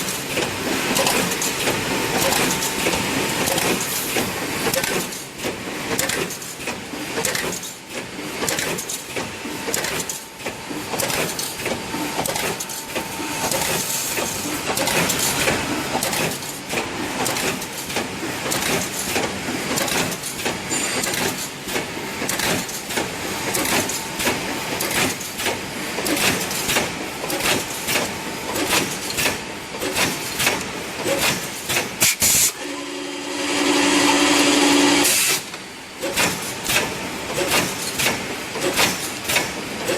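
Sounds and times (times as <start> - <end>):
welding machine clatter: 0.0 - 32.6, 34.0 - 39.9.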